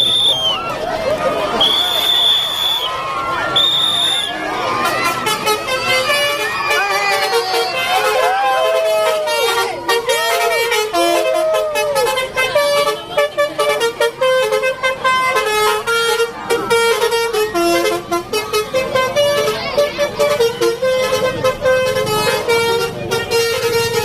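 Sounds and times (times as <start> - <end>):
multi-tone musical bus horn: 3.5 - 24.0.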